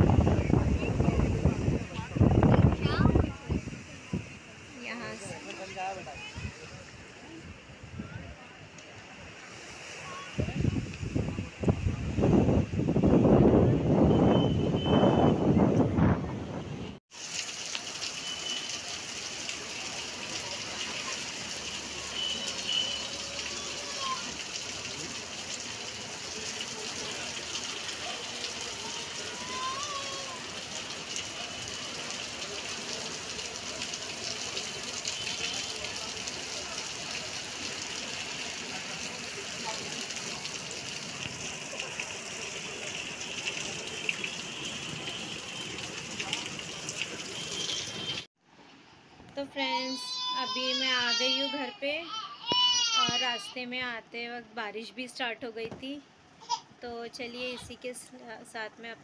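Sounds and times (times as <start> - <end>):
rain hissing: 0.0 - 48.3.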